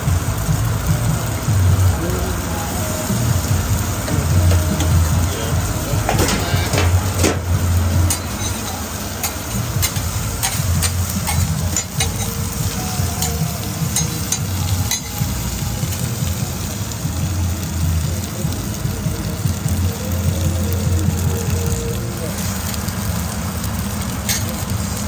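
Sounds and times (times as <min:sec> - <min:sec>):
food sizzling and frying: 0:00.0 - 0:25.0
steady low hum: 0:00.0 - 0:25.0
utensils clicking and clattering: 0:01.5 - 0:16.4, 0:18.1 - 0:25.0.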